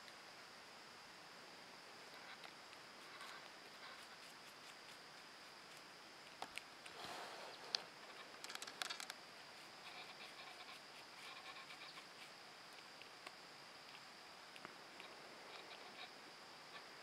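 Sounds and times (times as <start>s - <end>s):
porcupine gnawing apple: 2.4s - 16.1s.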